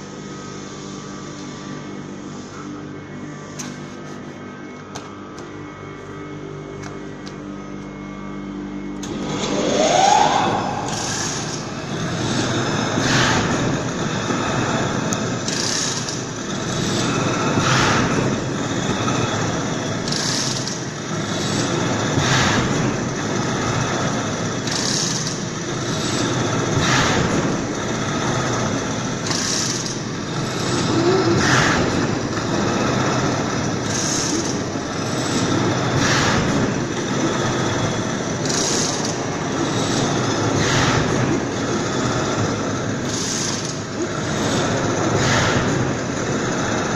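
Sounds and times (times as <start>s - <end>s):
veneer slicing machine running: 0.0s - 46.9s.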